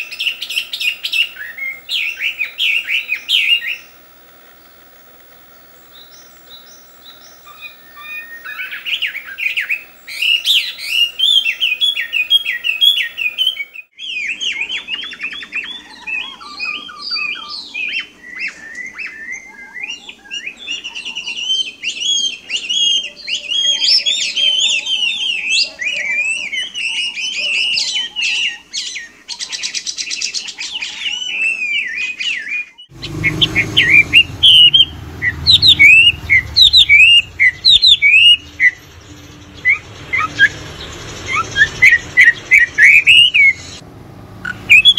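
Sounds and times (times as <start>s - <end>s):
bird singing whistled phrases: 0.0s - 3.9s, 5.9s - 43.8s, 44.4s - 44.9s.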